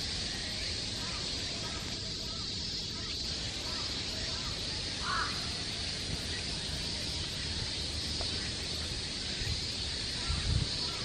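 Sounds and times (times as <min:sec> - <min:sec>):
high insect drone: 0:00.0 - 0:11.0
low rumble of wind: 0:00.0 - 0:11.0.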